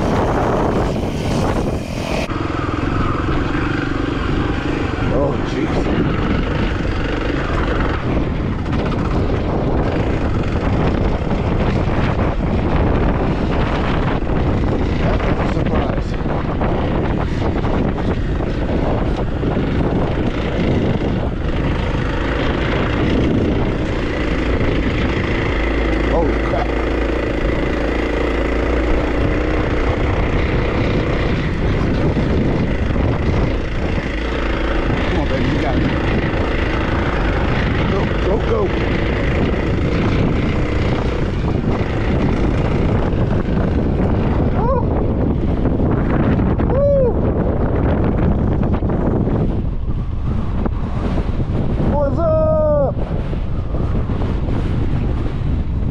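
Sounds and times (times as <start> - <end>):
motorcycle engine running: 0.0 - 52.3, 53.0 - 55.9
wind buffeting microphone: 0.0 - 55.9.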